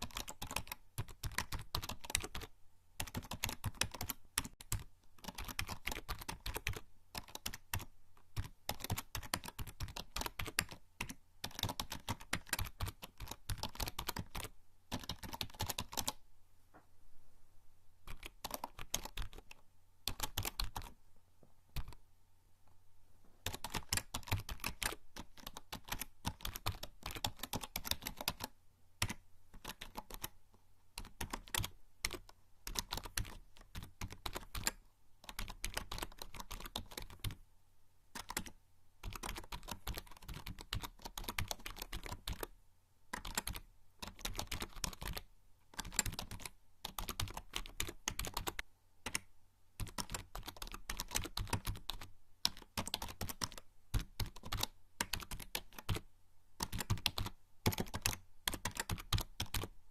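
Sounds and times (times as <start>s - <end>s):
typing on a keyboard: 0.0s - 16.2s, 18.1s - 21.0s, 21.8s - 22.0s, 23.4s - 30.4s, 31.0s - 37.4s, 38.2s - 42.5s, 43.1s - 56.0s, 56.6s - 59.7s.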